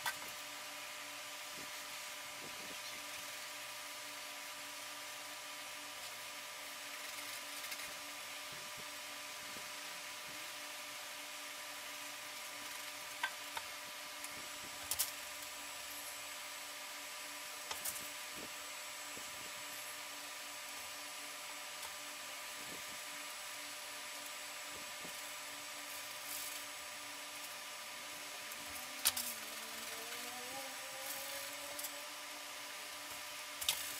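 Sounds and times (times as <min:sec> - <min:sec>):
faint electrical hum: 0:00.0 - 0:33.9
room hiss: 0:00.0 - 0:33.9.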